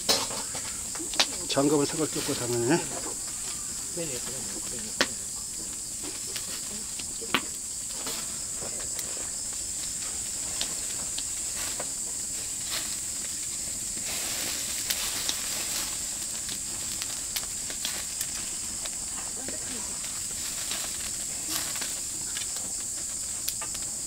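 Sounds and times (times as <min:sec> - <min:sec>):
fire crackling: 0:00.0 - 0:24.0
insects chirring: 0:00.0 - 0:24.0
meat fat sizzling on grill: 0:00.0 - 0:24.0.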